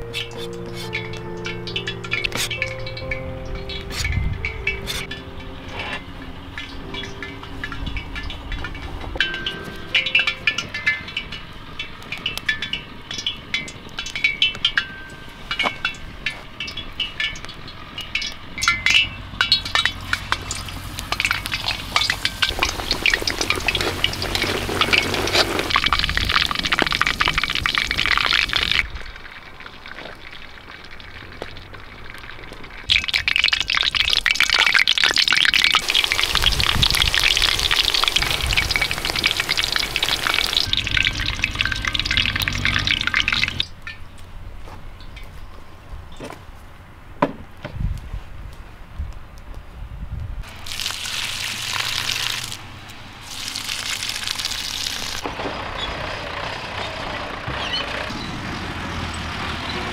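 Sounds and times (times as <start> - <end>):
fish deep-frying sizzle: 0.0 - 43.7, 50.4 - 55.3.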